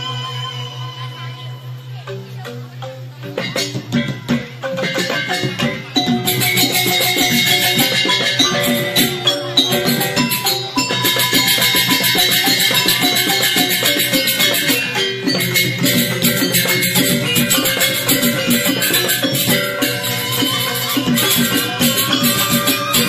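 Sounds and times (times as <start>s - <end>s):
bamboo xylophones playing fast patterns: 0.0s - 23.0s
percussion: 0.0s - 23.0s.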